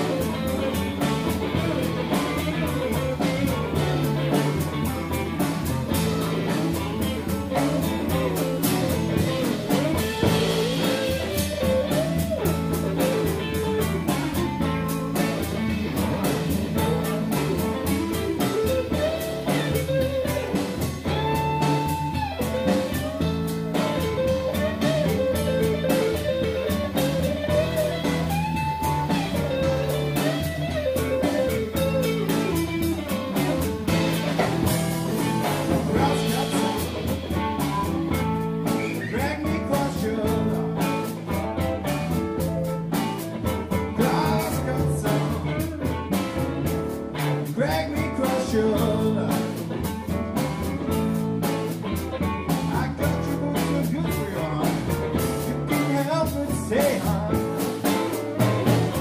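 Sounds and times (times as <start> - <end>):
blues band playing: 0.0 - 59.0
electric guitar lead lines: 0.0 - 59.0.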